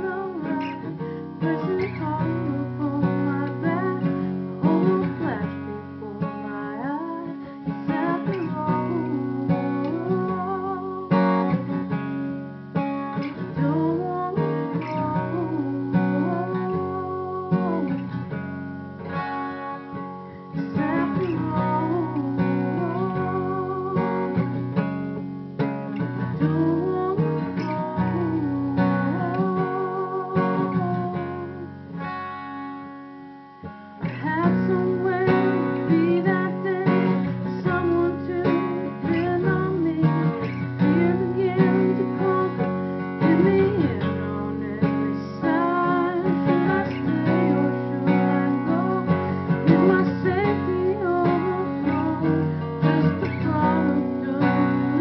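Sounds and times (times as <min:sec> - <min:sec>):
woman singing: 0:00.0 - 0:12.0, 0:13.2 - 0:18.4, 0:19.1 - 0:24.6, 0:26.0 - 0:32.1, 0:34.0 - 0:55.0
acoustic guitar strumming: 0:00.0 - 0:55.0.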